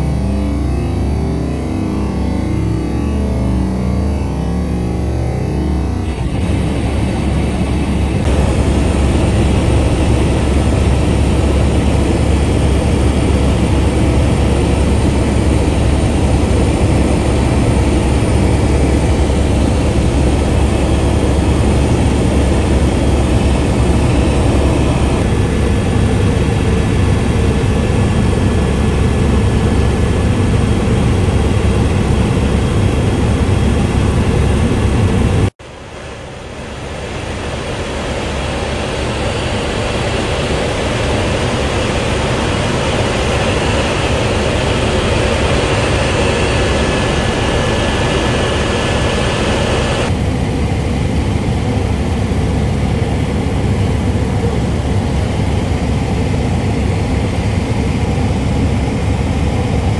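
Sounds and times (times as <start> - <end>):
aircraft cabin engine and airflow noise: 0.0 - 59.9.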